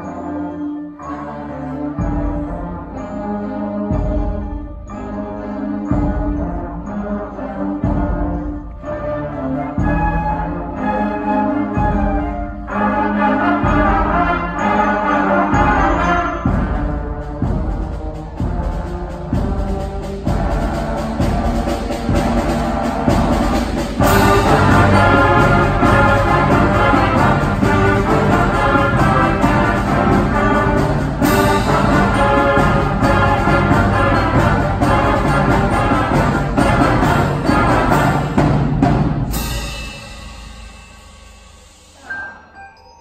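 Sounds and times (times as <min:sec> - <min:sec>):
concert band playing: 0:00.0 - 0:42.5.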